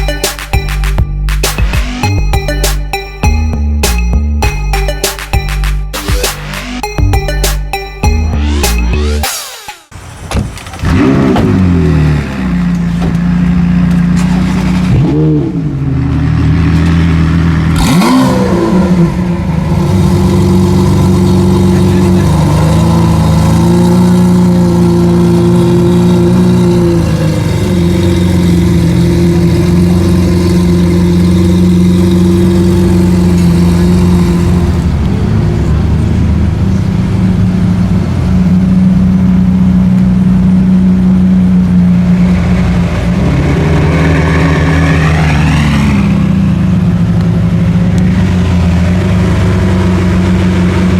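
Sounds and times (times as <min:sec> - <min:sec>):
car engine revving and idling: 0:08.1 - 0:50.9.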